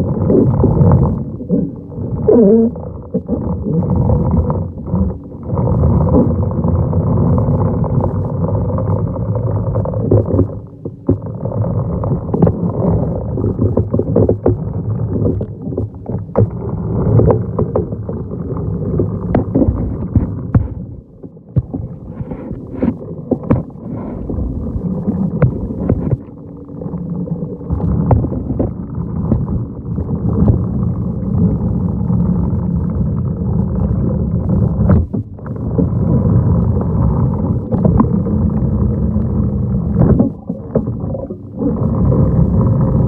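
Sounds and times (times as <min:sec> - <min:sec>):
faint steady hum: 0:00.0 - 0:43.0
underwater rumble of pool vacuum: 0:00.0 - 0:43.0.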